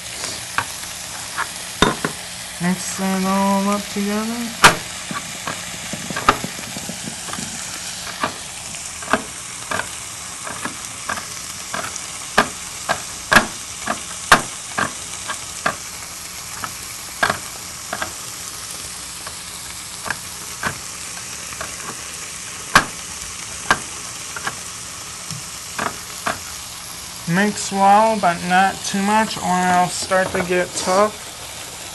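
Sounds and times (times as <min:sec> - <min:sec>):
frying pan sizzling: 0:00.0 - 0:31.9.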